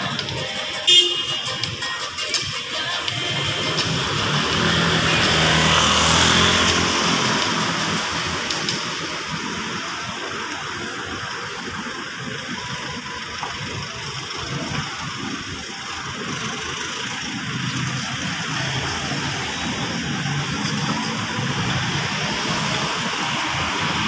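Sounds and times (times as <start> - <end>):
cars and trucks driving past: 0.0 - 24.0.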